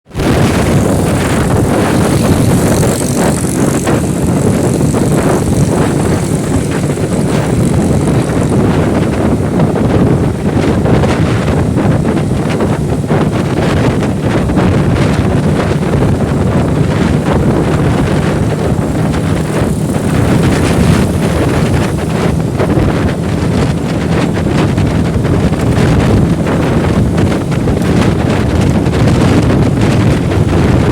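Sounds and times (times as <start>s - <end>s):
motorcycle engine running: 0.1s - 30.9s
wind buffeting microphone: 0.1s - 30.9s.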